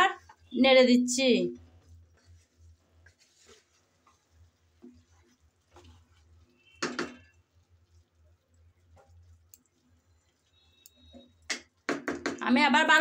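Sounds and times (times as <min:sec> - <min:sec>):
wooden spatula scraping in pan: 0:00.0 - 0:11.9.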